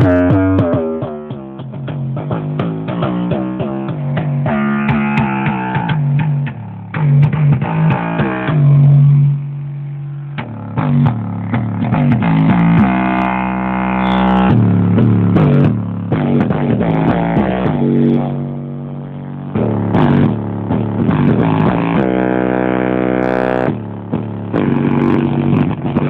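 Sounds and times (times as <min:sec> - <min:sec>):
guitar and bass music loud: 0:00.0 - 0:26.0.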